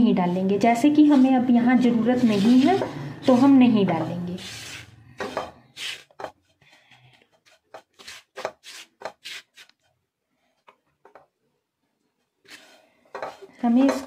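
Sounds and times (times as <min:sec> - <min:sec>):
spatula scraping a pan: 0:00.0 - 0:09.8, 0:12.2 - 0:14.0.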